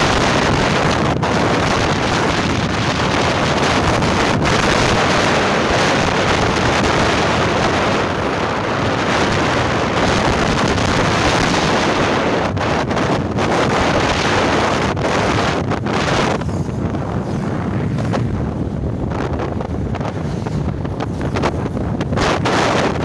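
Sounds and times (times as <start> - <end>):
road noise: 0.0 - 23.0
wind rushing over microphone: 0.0 - 23.0.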